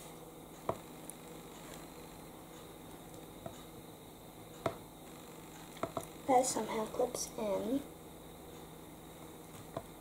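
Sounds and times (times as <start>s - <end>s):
low room noise: 0.0s - 10.0s.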